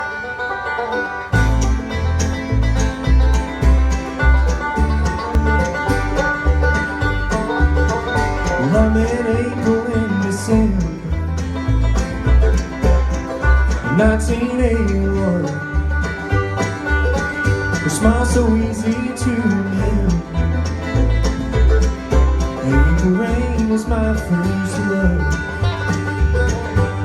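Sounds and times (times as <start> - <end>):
bluegrass band playing: 0.0 - 27.0
fast banjo picking: 0.0 - 27.0.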